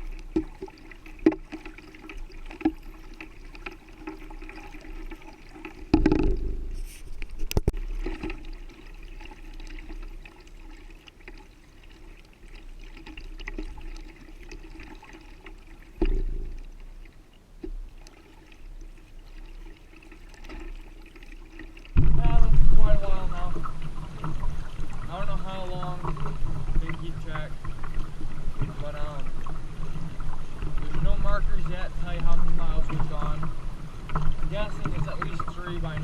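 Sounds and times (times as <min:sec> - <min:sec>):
water splashing from kayak paddling: 0:00.0 - 0:36.0.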